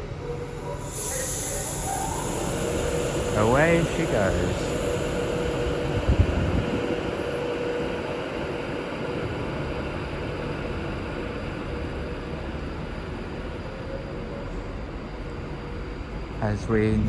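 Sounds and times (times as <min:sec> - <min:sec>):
electric train rumbling away: 0:00.0 - 0:17.0.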